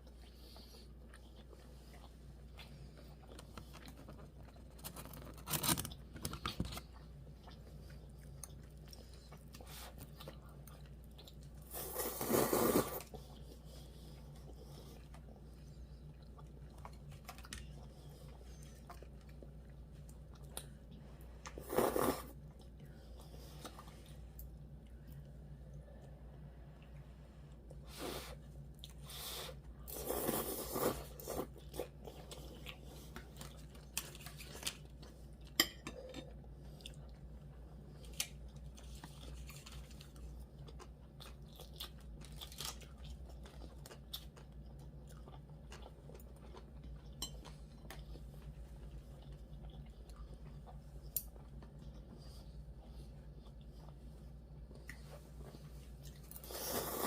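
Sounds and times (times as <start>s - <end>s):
chewing with crunches: 0.0s - 57.0s
steady low hum: 0.0s - 57.0s.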